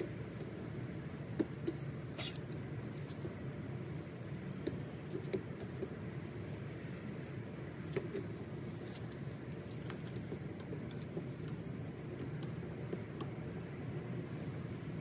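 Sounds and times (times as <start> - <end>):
light rain falling: 0.0 - 15.0
steady low background noise: 0.0 - 15.0.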